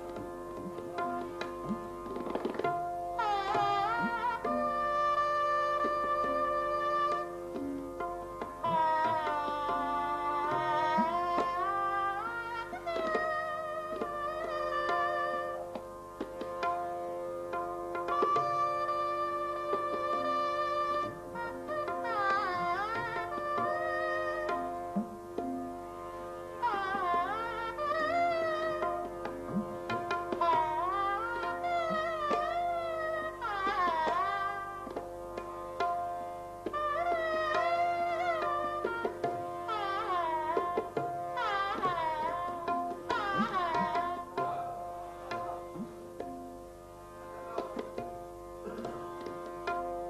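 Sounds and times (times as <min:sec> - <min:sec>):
shehnai playing a melody: 0:00.0 - 0:50.0
tabla strokes: 0:00.0 - 0:50.0.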